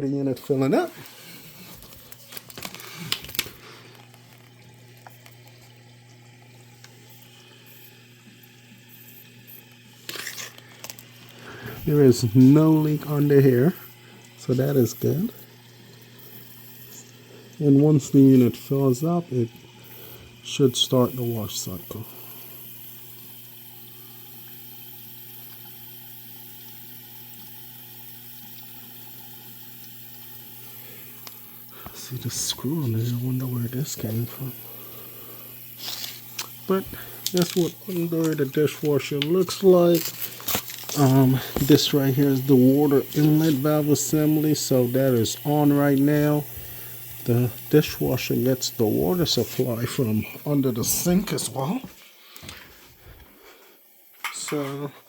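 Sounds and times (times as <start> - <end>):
dishwasher filling with water: 0.1 - 55.0.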